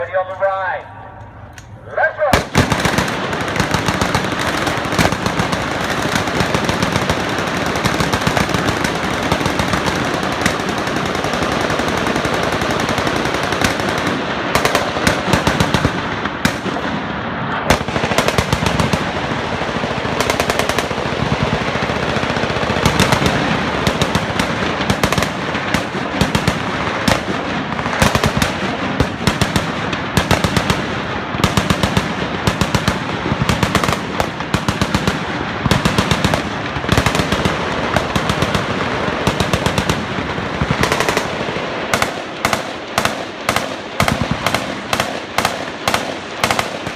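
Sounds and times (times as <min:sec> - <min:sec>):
machine guns firing: 0:02.2 - 0:46.9.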